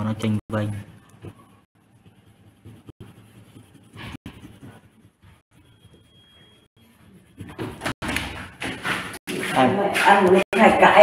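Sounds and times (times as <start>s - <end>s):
pencil scratching on paper: 1.4s - 10.4s.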